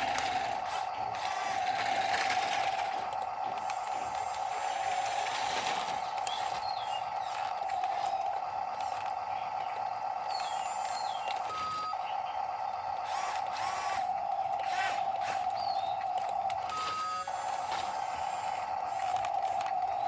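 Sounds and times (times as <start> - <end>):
small electric motor whining: 0.0 - 20.0.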